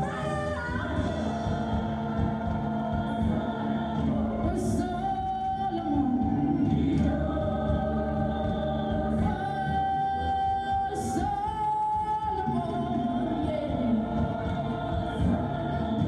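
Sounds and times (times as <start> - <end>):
backing voices singing: 0.0 - 16.0.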